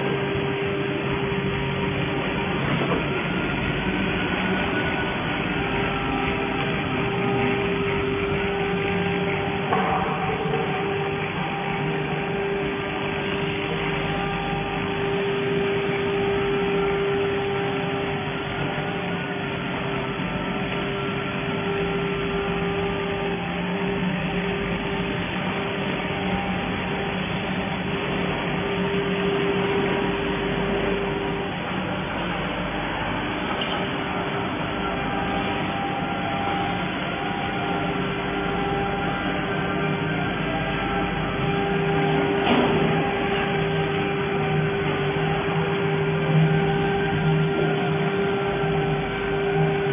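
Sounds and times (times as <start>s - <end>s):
faint steady tones: 0.0s - 49.9s
welding machine humming: 0.0s - 49.9s.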